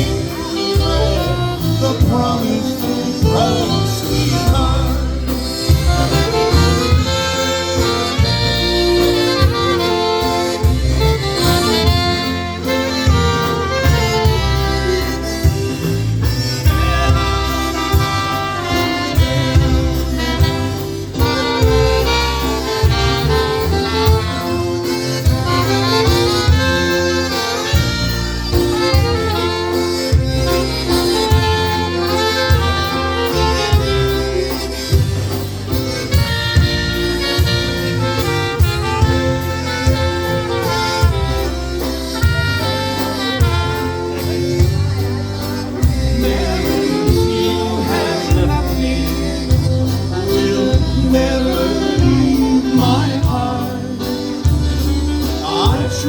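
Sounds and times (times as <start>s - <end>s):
polka band playing a waltz: 0.0s - 56.0s.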